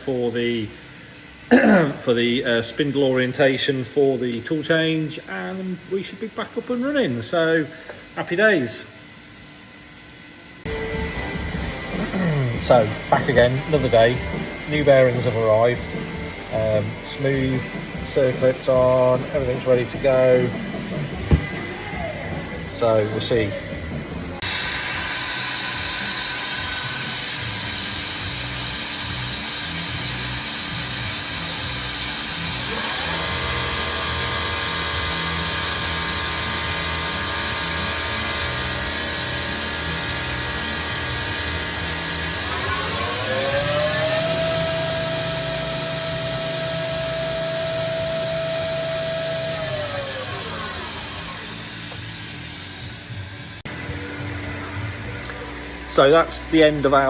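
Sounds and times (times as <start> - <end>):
milling machine spindle whine: 0.0 - 54.6
machine hum: 3.8 - 57.0.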